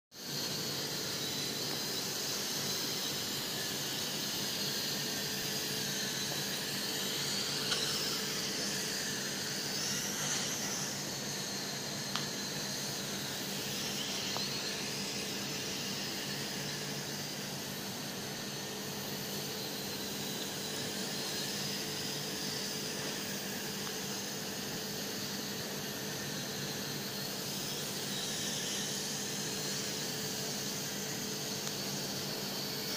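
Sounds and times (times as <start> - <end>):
toy drone motors whining: 0.2 - 32.9.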